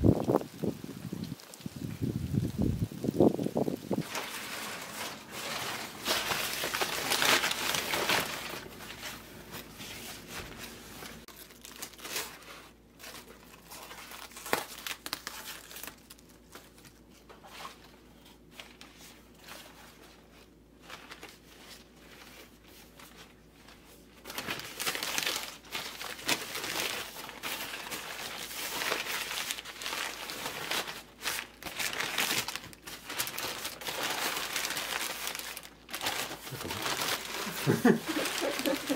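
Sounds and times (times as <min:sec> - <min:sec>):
newspaper crumpling and rustling: 0:00.1 - 0:38.9.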